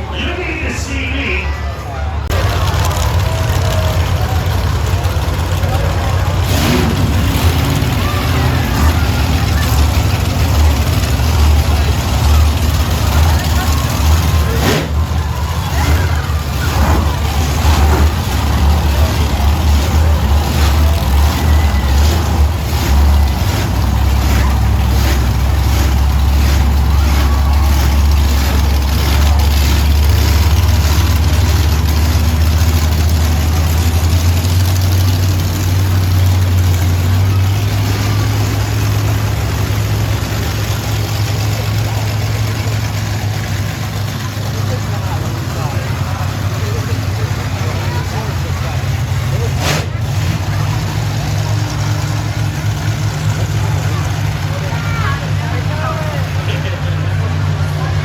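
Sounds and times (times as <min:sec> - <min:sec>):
monster truck engines rumbling: 0:00.0 - 0:58.0.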